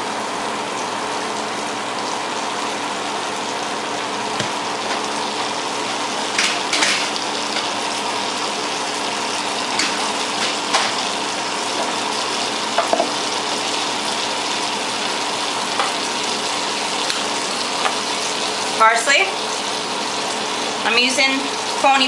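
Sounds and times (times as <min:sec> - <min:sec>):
butter sizzling in frying pan: 0:02.0 - 0:22.0.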